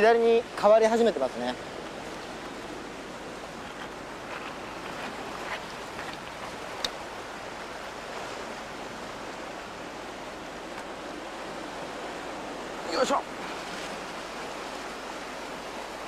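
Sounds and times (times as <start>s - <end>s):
sea surf on rocky shore: 0.0s - 16.0s.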